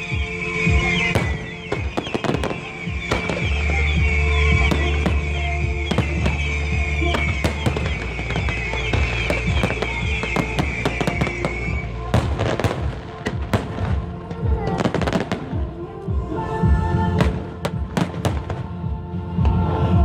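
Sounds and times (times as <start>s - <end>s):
fireworks bangs and crackles: 0.0s - 16.1s, 17.2s - 19.6s
music playing: 0.0s - 20.0s.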